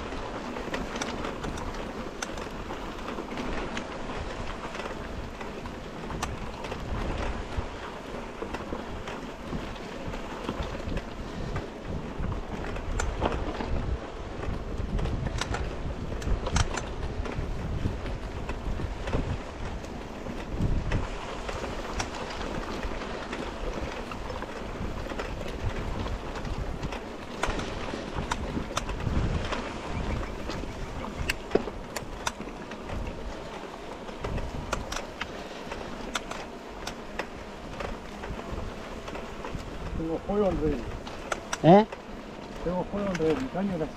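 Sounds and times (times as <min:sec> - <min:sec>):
bike rattling over bumps: 0:00.0 - 0:43.9
bike tyres rumbling on grass: 0:00.0 - 0:43.9
wind on microphone: 0:00.0 - 0:43.9.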